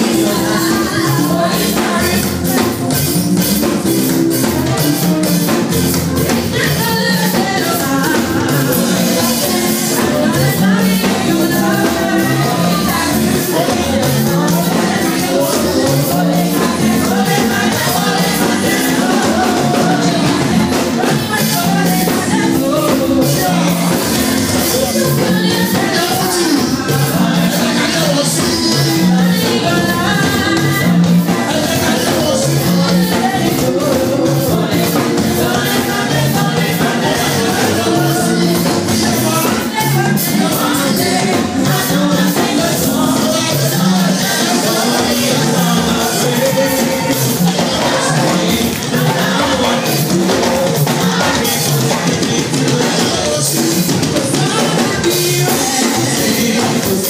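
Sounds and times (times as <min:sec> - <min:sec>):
amplified instrumental accompaniment: 0:00.0 - 0:57.0
children's choir singing: 0:04.7 - 0:57.0.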